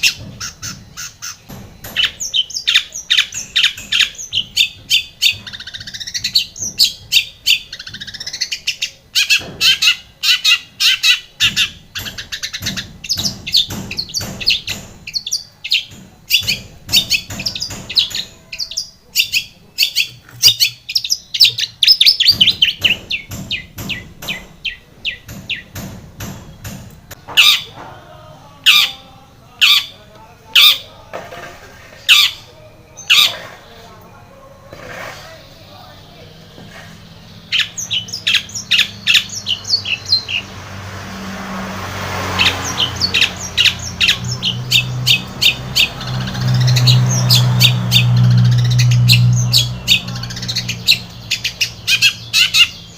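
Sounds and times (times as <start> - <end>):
bird singing chirps and trills: 0.0 - 27.8, 28.4 - 40.8, 41.6 - 52.9
harsh bird calls: 0.0 - 52.9.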